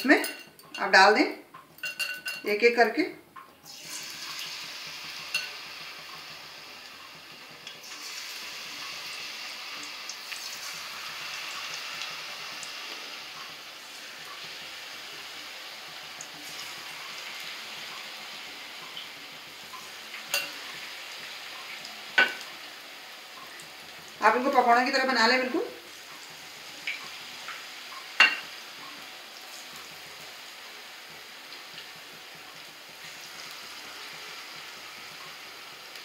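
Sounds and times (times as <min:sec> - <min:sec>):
food sizzling in hot oil: 0:00.0 - 0:03.0, 0:03.6 - 0:36.0.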